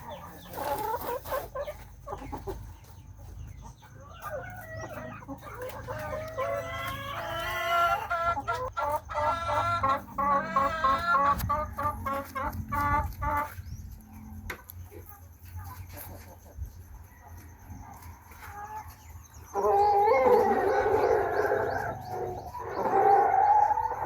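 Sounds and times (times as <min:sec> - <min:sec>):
chickens clucking and calling: 0:00.0 - 0:24.0.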